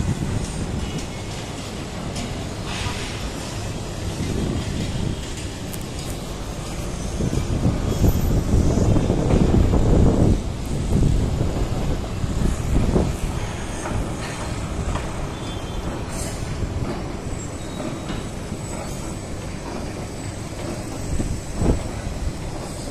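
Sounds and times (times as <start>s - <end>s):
low rumble of city traffic: 0.0s - 22.9s.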